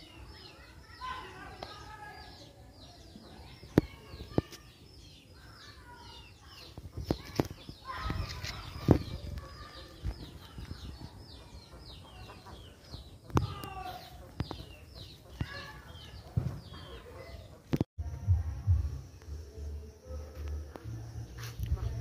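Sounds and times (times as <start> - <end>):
small birds chirping: 0.0 - 17.9.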